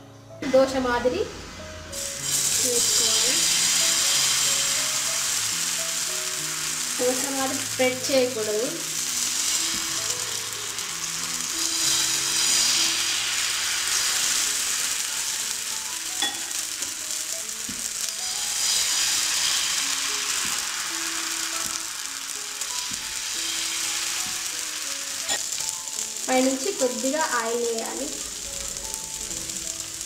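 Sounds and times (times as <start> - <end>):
batter sizzling on pan: 0.6 - 30.0.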